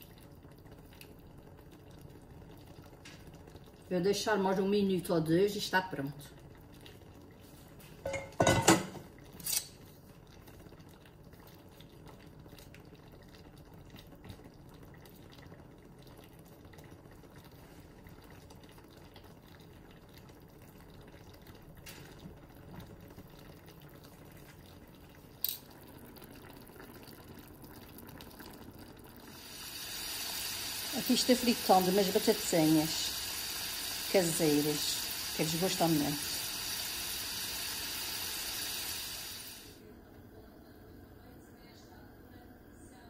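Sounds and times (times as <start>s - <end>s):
sauce bubbling in a pan: 0.0s - 40.3s.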